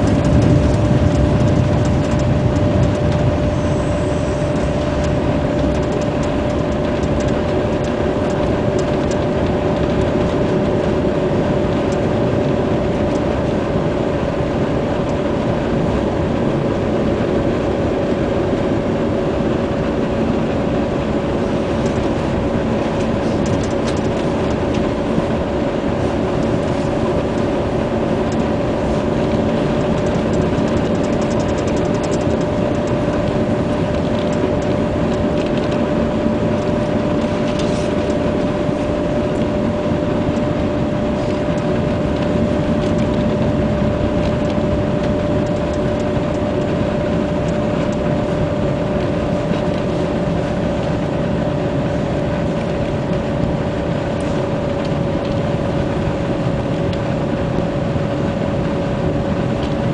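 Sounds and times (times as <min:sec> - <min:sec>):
steady train hum: 0:00.0 - 0:59.9
train running rumble: 0:00.0 - 0:59.9.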